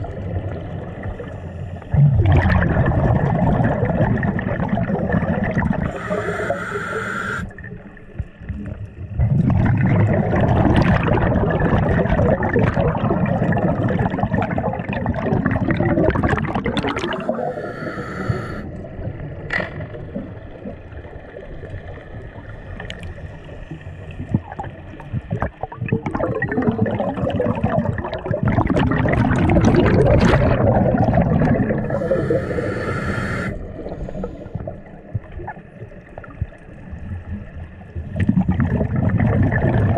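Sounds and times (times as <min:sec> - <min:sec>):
water sloshing and gurgling: 0:00.0 - 0:06.3, 0:07.5 - 0:17.7, 0:18.4 - 0:39.9.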